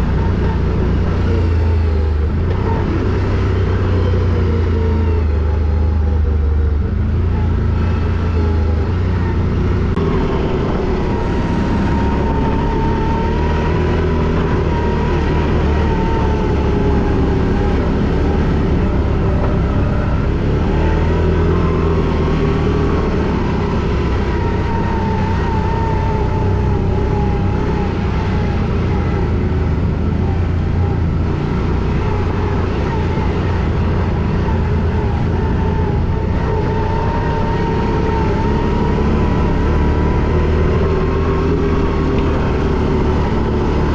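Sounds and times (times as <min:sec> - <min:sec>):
quad bike engine running: 0:00.0 - 0:43.9.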